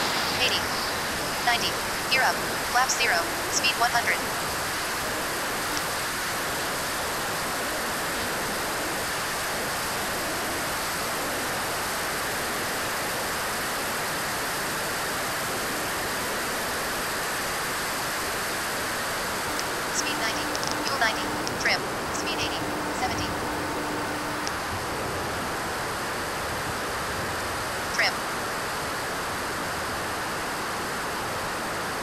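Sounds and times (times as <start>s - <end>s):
jet turbine and airflow hiss: 0.0s - 32.0s.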